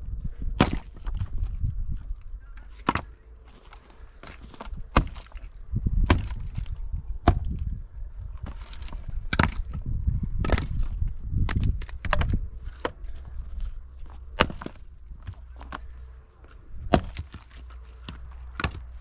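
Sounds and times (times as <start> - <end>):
axe chopping firewood: 0.4 - 1.6, 2.6 - 7.7, 8.4 - 19.0.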